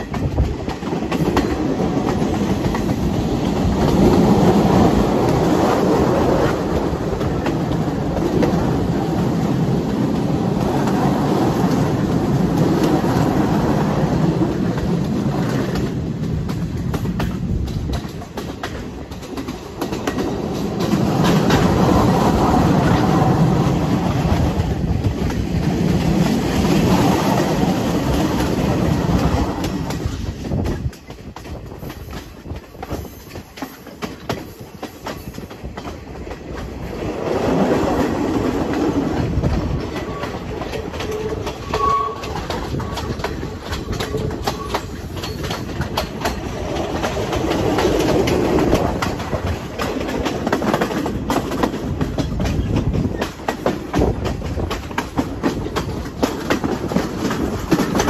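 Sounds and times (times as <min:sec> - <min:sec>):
clickety-clack of rail joints: 0:00.0 - 0:58.0
train wheels rumbling: 0:00.0 - 0:58.0.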